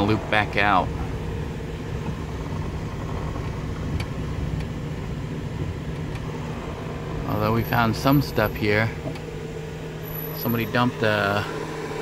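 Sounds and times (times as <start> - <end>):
van engine and tyres rumbling: 0.0 - 12.0.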